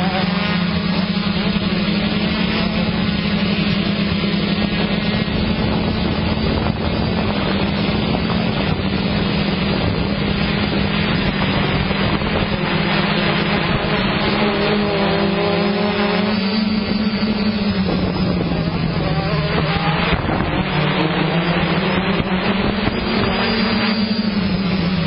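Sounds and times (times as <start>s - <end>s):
motocross bike engines droning: 0.0s - 25.0s
motorbike engine revving: 0.0s - 25.0s.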